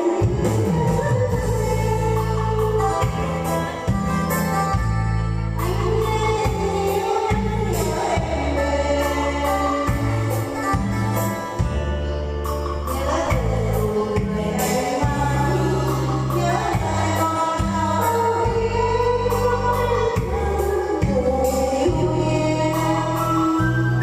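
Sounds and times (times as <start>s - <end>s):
person singing: 0.0s - 3.9s, 5.6s - 11.6s, 12.7s - 24.0s
backing track with bass and beat: 0.0s - 24.0s.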